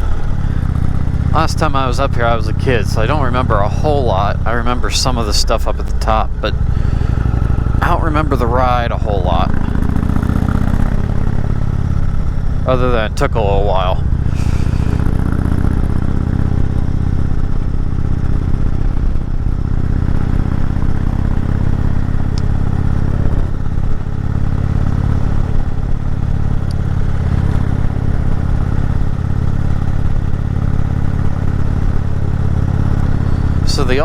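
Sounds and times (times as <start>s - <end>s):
motorcycle engine rumbling under load: 0.0s - 34.0s.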